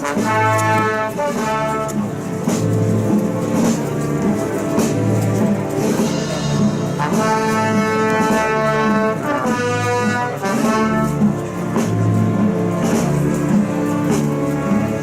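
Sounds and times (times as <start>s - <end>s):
brass band playing a march: 0.0s - 15.0s
drum beats: 0.0s - 15.0s.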